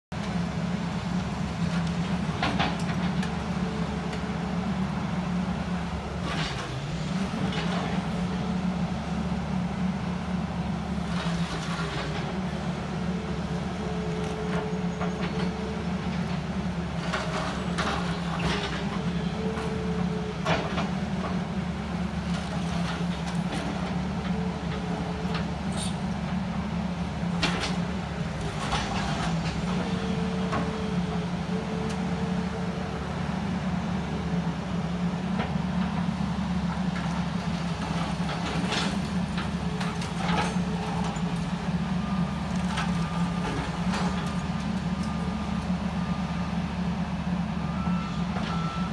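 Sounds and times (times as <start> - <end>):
excavator diesel engine: 0.1 - 48.9.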